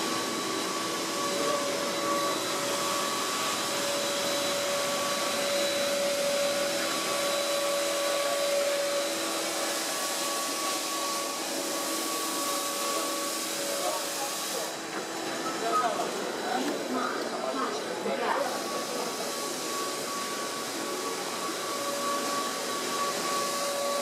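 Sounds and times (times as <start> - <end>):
train pulling into station: 0.0 - 24.0.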